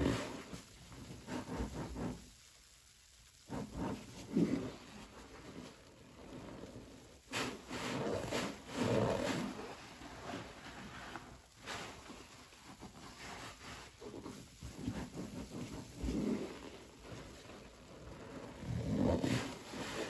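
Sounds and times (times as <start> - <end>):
wet sponge squelching: 3.4 - 20.0.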